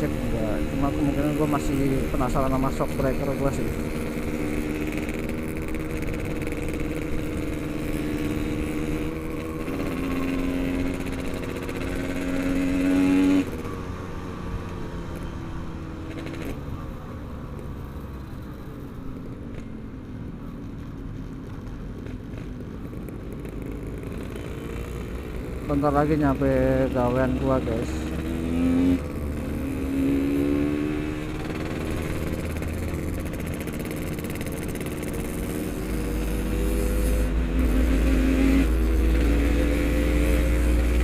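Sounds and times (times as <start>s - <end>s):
two-stroke motorcycle engine revving: 0.0s - 16.6s, 22.1s - 41.0s.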